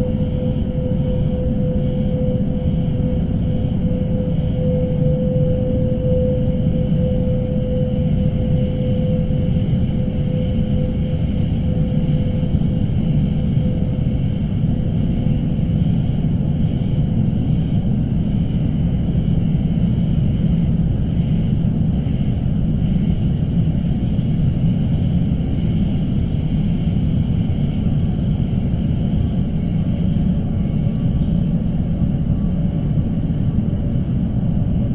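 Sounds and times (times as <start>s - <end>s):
low rumbling drone: 0.0s - 34.9s.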